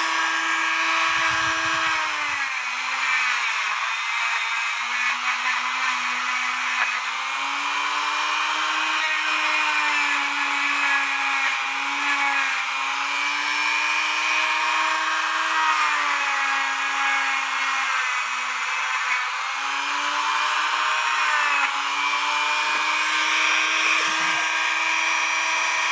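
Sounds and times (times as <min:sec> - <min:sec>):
electric power tool motor whining: 0:00.0 - 0:25.9.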